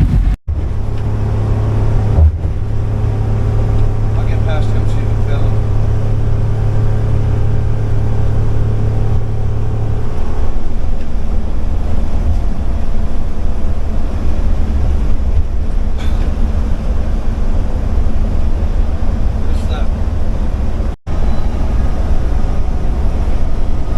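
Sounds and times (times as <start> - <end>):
vehicle engine and road rumble: 0.0 - 23.9
droning hum: 0.5 - 23.9.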